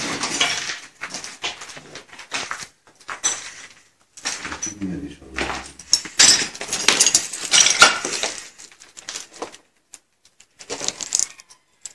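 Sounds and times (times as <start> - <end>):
footsteps crunching over rubble: 0.0 - 11.3.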